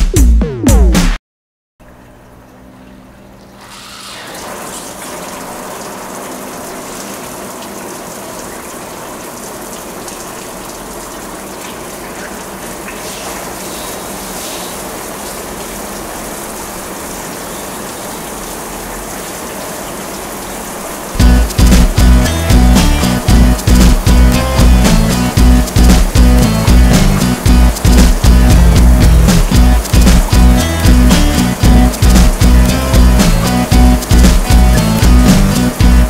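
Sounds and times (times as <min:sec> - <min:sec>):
water spraying down like rain: 0:03.6 - 0:36.0.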